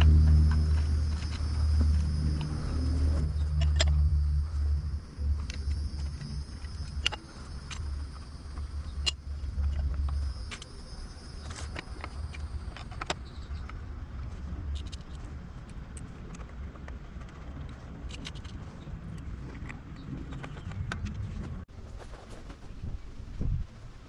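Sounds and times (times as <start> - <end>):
steady low rumble: 0.0 - 21.7.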